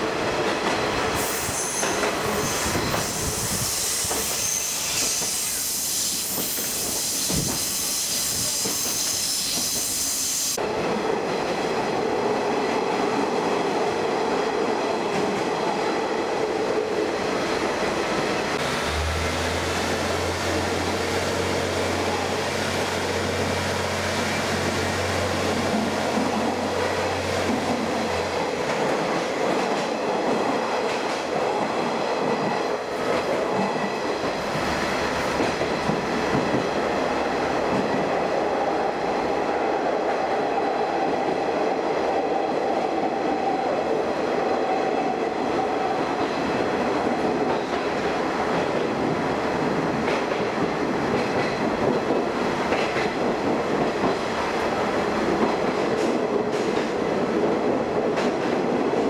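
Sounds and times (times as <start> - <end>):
wheels rumbling on rail: 10.5 - 59.0.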